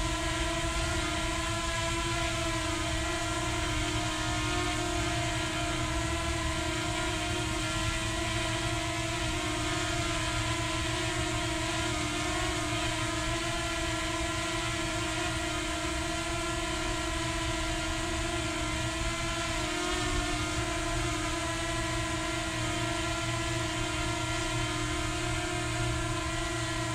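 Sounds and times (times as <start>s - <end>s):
drone propellers buzzing: 0.0s - 26.9s.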